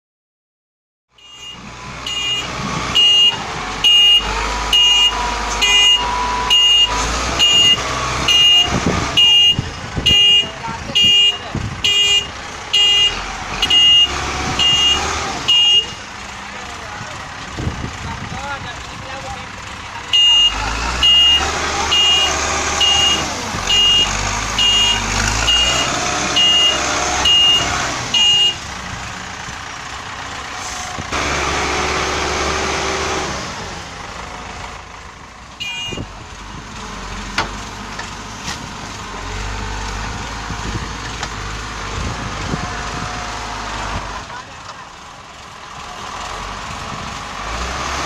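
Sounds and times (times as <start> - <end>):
diesel engine running: 1.2 - 48.0.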